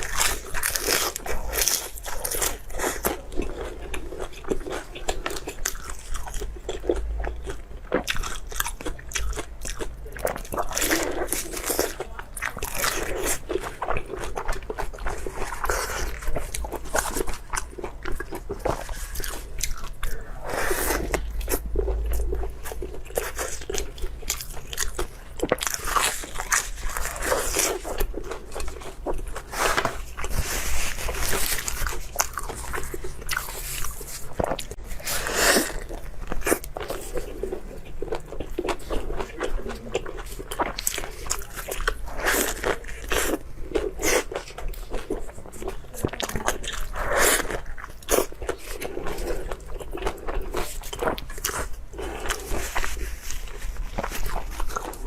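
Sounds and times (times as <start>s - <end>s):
person biting and chewing food: 0.0s - 55.0s.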